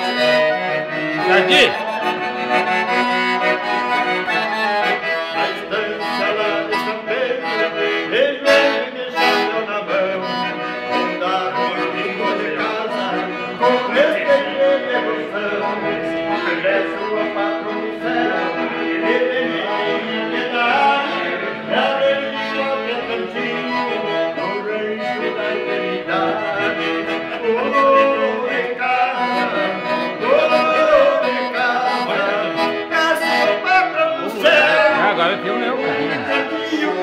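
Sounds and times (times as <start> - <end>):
piano accordion playing: 0.0 - 37.0
man singing: 1.2 - 2.4, 4.3 - 37.0.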